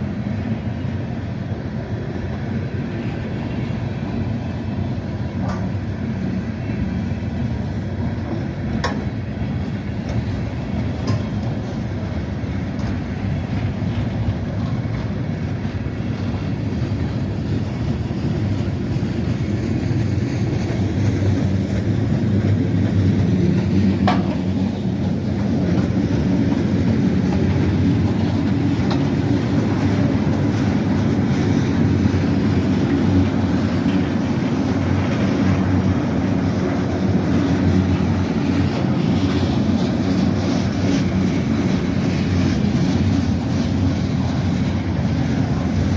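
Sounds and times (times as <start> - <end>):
freight train wheels rumbling: 0.0 - 45.9.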